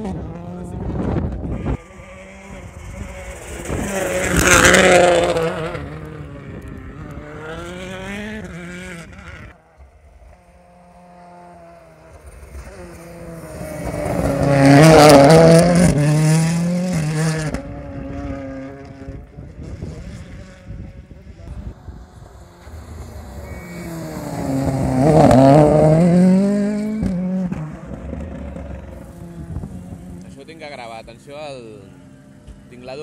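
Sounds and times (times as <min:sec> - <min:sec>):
rally cars passing at full speed: 0:00.0 - 0:33.0.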